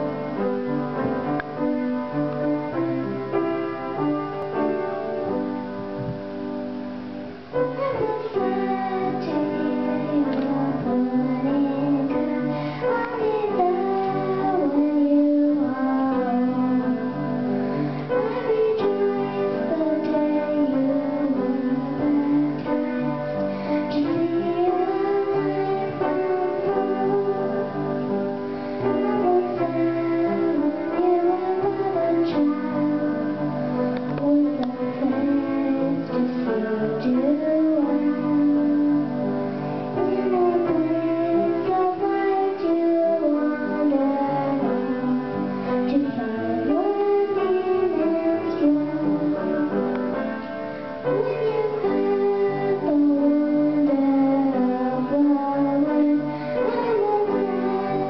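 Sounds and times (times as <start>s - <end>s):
girl singing into microphone: 0.0s - 6.2s, 7.4s - 58.0s
piano playing: 0.0s - 58.0s.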